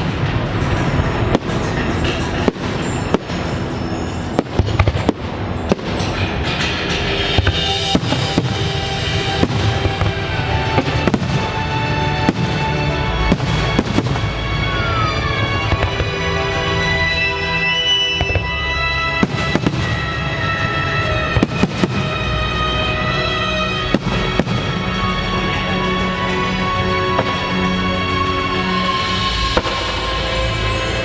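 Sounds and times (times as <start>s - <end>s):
fireworks bangs: 0.0s - 31.0s
low rumble of fireworks: 0.0s - 31.0s
music playing: 0.0s - 31.0s.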